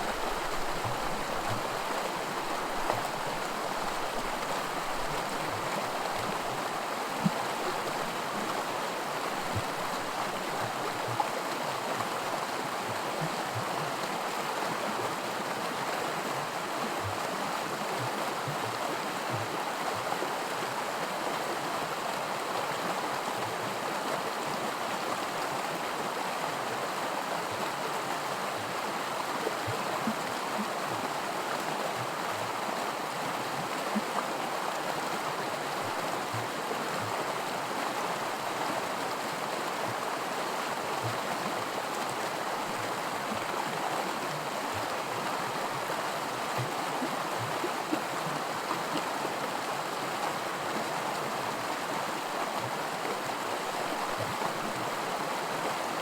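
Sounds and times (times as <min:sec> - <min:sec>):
creek water rushing over rapids: 0:00.0 - 0:56.0.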